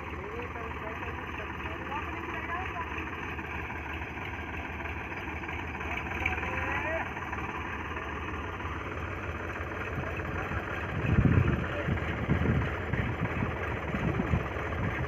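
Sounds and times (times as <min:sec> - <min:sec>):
low rumbles: 0:00.0 - 0:15.0
tractor engine idling: 0:00.0 - 0:15.0.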